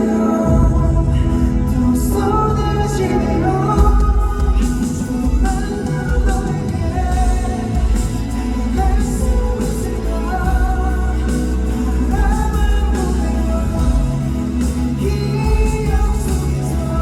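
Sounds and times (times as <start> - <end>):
instrumental music with heavy bass: 0.0 - 17.0
man singing pop song: 0.0 - 17.0.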